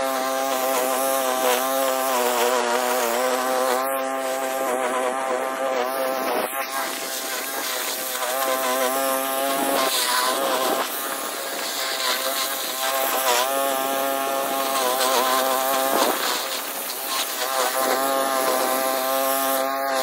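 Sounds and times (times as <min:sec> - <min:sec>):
lawn mower engine cutting grass: 0:00.0 - 0:20.0.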